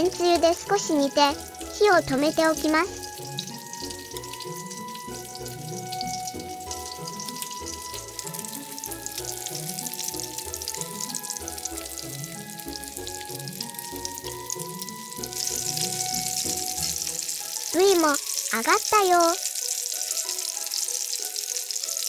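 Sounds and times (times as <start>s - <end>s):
fish sizzling in oil: 0.0s - 22.0s
light background music: 0.0s - 22.0s.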